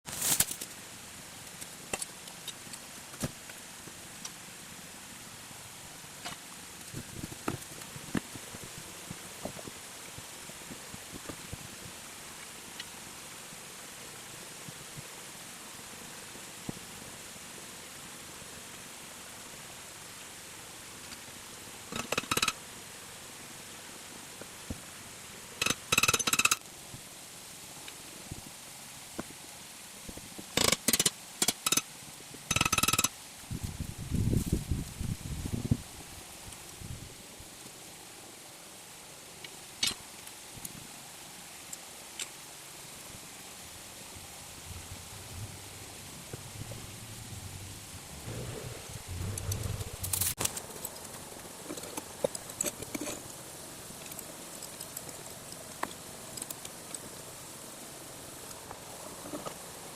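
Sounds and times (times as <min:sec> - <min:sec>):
steady hiss: 0:00.1 - 0:59.9.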